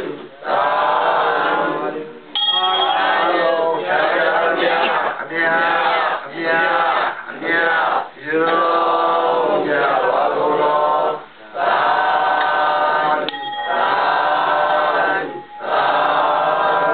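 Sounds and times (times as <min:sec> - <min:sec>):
many voices chanting in unison: 0:00.0 - 0:16.9.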